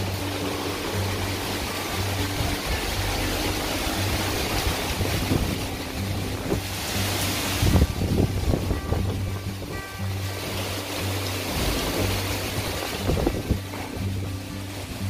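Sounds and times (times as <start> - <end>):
background music: 0.0 - 15.0
heavy rain: 0.0 - 15.0
wind buffeting microphone: 1.9 - 10.7, 11.5 - 15.0.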